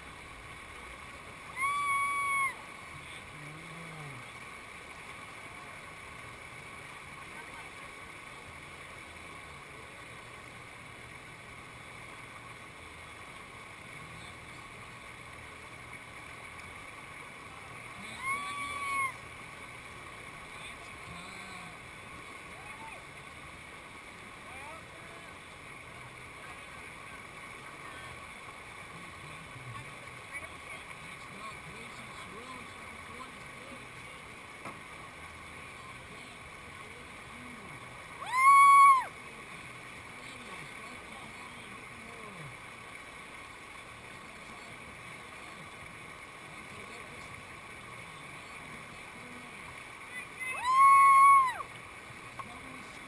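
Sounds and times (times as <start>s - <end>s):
whitewater rushing over ledge: 0.0s - 53.0s.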